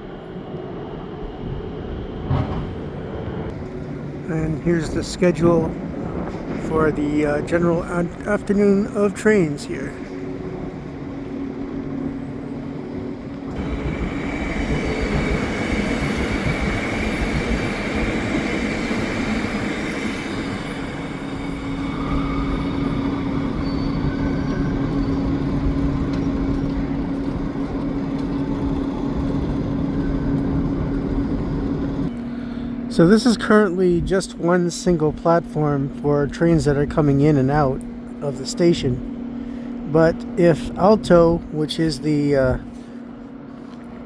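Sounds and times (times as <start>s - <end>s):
train rushing noise: 0.0s - 43.2s
train hum: 0.0s - 44.0s.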